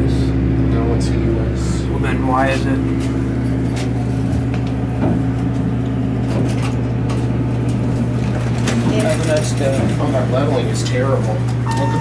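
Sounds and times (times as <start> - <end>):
elevator low hum: 0.0 - 12.0.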